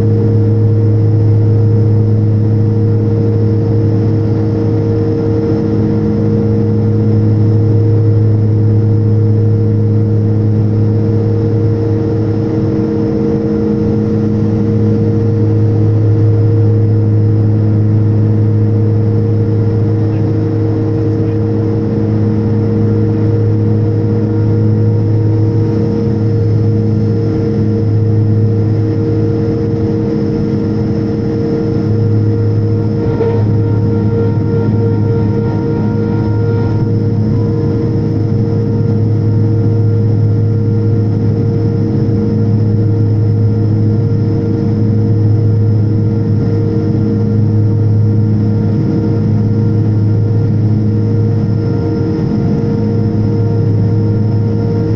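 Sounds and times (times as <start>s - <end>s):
aircraft engine and propeller drone: 0.0s - 54.9s.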